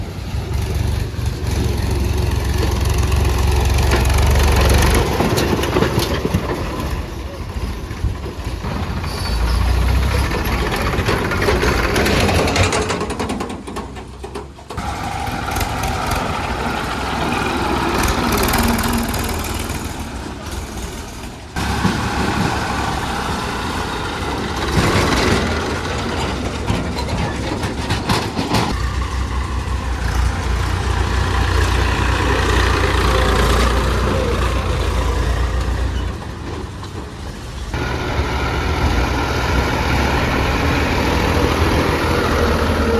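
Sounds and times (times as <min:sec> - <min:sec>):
heavy machinery engines: 0:00.0 - 0:42.9.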